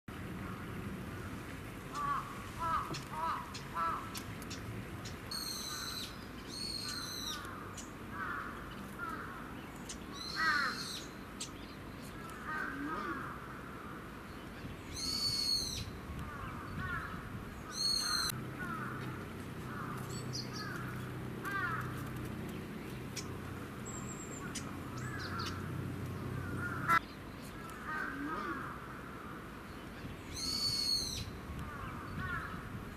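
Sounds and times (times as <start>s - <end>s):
loud high bird calls: 5.3s - 22.2s, 23.1s - 32.7s.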